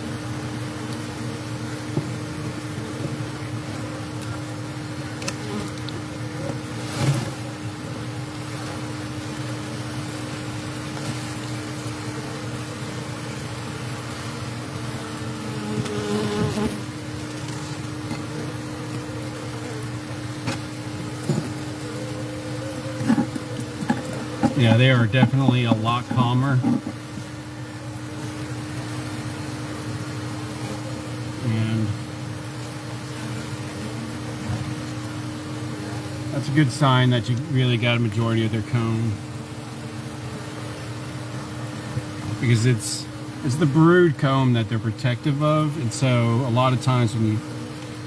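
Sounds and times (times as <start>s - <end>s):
honeybee colony buzzing: 0.0s - 48.0s.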